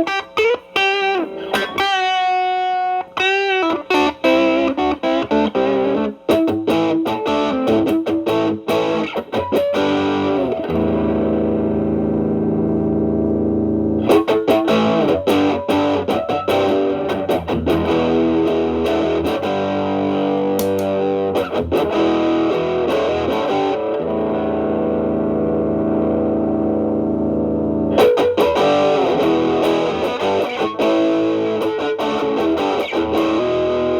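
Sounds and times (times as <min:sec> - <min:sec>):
overdriven electric guitar: 0:00.0 - 0:33.9.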